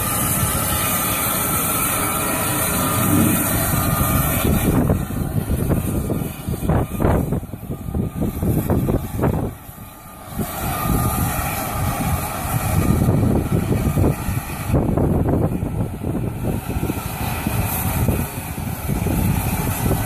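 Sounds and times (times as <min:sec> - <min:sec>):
locomotives idling rumble: 0:00.0 - 0:20.0.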